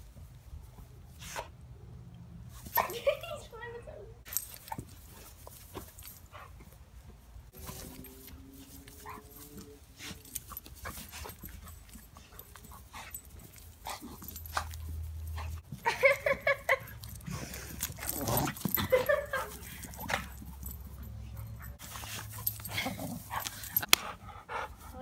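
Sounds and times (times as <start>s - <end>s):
dogs panting and scuffling: 2.4s - 25.0s.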